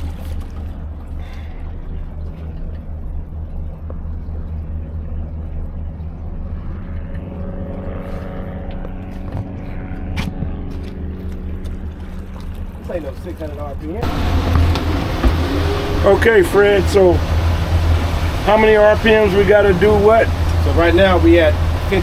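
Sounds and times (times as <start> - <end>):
pitched engine hum: 0.0 - 12.9, 14.0 - 22.0
outboard motor running: 0.0 - 22.0.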